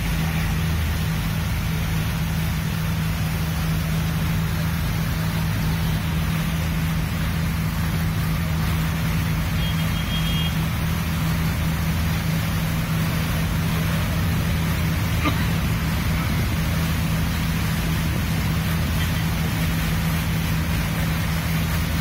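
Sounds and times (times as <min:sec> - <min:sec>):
constant rushing hiss: 0:00.0 - 0:22.0
ferry diesel engine drone: 0:00.0 - 0:22.0.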